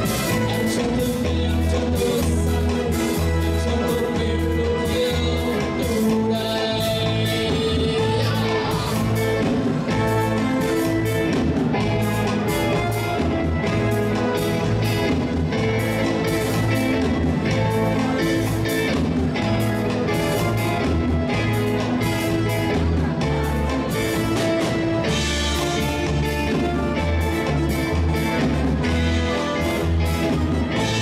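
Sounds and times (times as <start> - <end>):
bass guitar: 0.0 - 31.0
drum kit steady beat: 0.0 - 31.0
electric guitar: 0.0 - 31.0
keyboard: 0.0 - 31.0.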